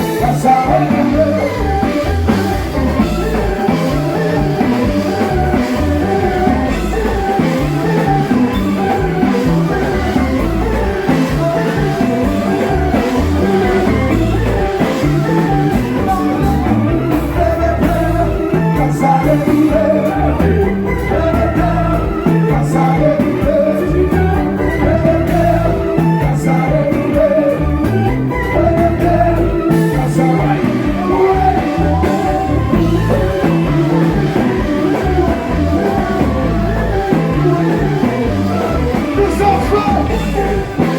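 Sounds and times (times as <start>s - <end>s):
guitar: 0.0s - 40.9s
loud music with steady beat: 0.0s - 40.9s
person singing: 0.0s - 40.9s.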